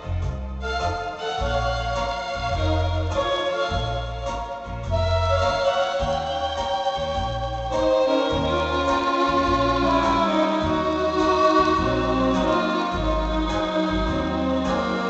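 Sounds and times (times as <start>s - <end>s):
accordion bass notes: 0.0s - 15.0s
accordion melody over chords: 0.0s - 15.0s.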